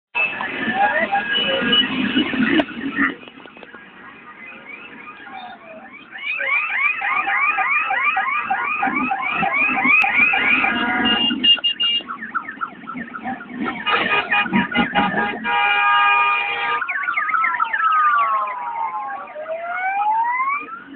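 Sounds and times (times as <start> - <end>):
motorcycle engines passing: 0.2 - 7.1, 7.7 - 20.9
electronic siren yelping: 0.2 - 20.9.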